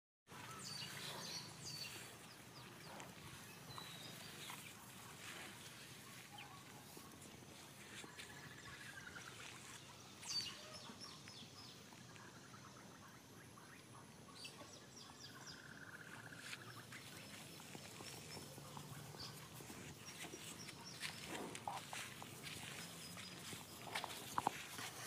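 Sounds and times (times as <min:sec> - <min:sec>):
birds chirping faintly: 0:00.3 - 0:25.0.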